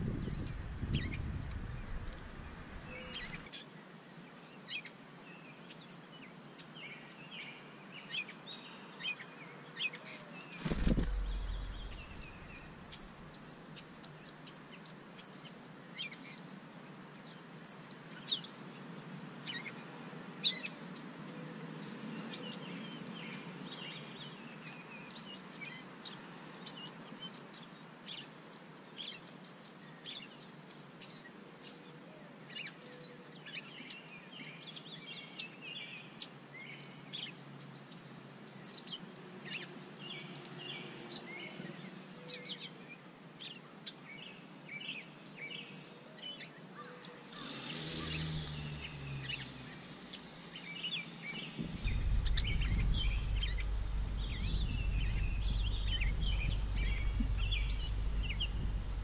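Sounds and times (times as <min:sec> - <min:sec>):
low steady background noise: 0:00.0 - 0:59.0
songbirds chirping: 0:00.0 - 0:59.0.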